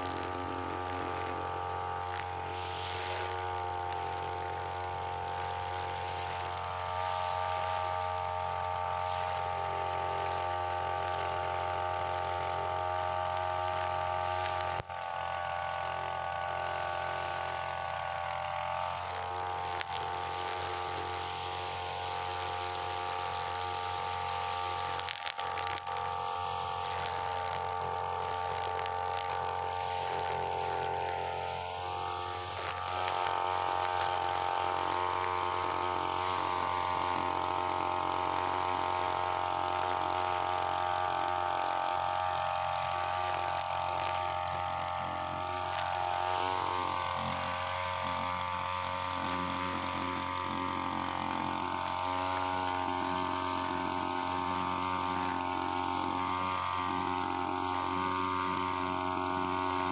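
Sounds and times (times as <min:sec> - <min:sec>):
brush cutter engine running: 0:00.0 - 0:59.9
nylon line cutting grass: 0:00.0 - 0:59.9.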